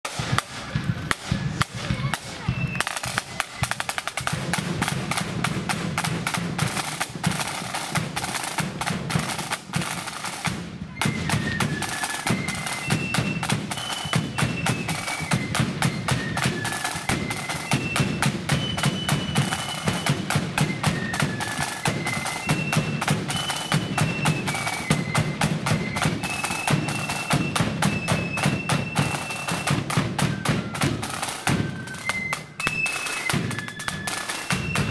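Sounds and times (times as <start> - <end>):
side drums march beat: 0.0 - 34.9
flutes playing tune: 0.1 - 34.9.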